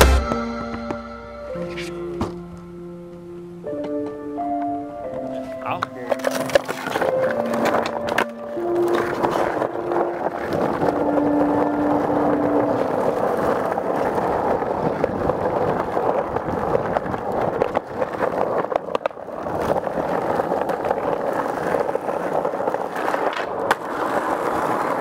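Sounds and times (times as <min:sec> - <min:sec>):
skateboard wheels rolling on asphalt: 0:00.0 - 0:25.0
skateboard clacks: 0:03.8 - 0:25.0.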